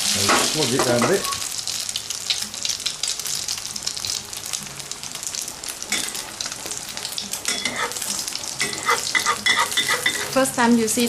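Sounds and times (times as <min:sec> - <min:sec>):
omelette sizzling in a wok: 0:00.0 - 0:11.0.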